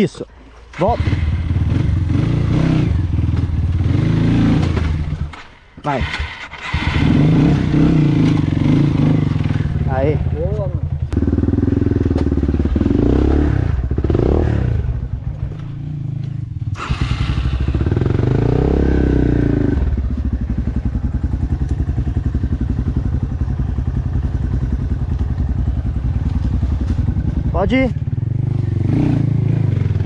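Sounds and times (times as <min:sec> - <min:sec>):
dirt bike engine revving and idling: 0:00.7 - 0:30.0.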